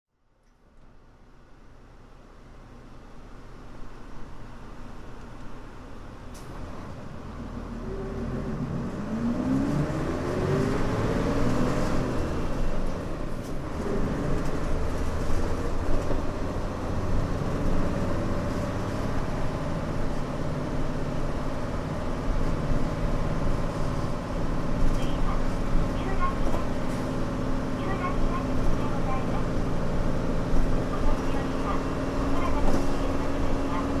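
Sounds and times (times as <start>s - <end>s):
diesel bus engine revving: 6.1s - 34.0s.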